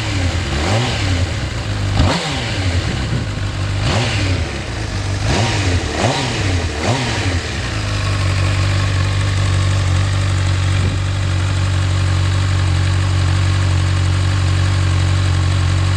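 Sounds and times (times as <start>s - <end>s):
motorcycle throttle blips: 0.0s - 14.9s
motorcycle engine idling: 0.0s - 15.9s.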